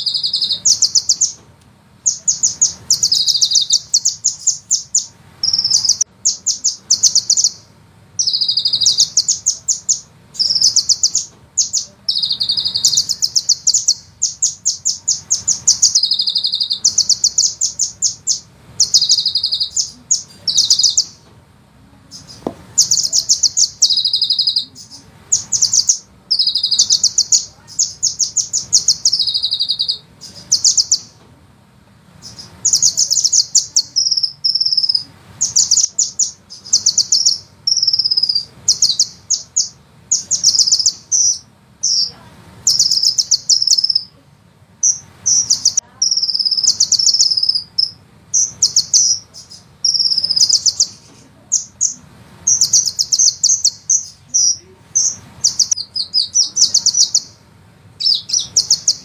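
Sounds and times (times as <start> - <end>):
bird singing rolling trills: 0.0 - 21.3, 22.0 - 31.2, 32.2 - 59.0.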